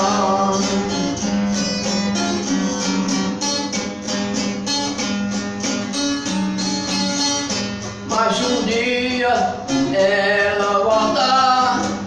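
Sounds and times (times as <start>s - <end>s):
steel strings strummed: 0.0s - 12.0s.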